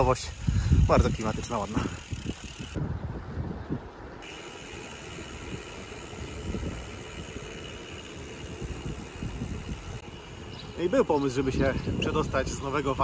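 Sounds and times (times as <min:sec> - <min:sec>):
wind and tyre noise: 0:00.0 - 0:13.0.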